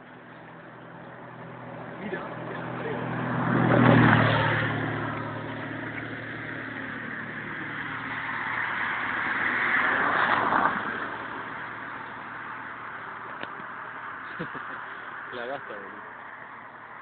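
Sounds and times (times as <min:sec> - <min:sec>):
cars passing on street: 0:00.0 - 0:17.0.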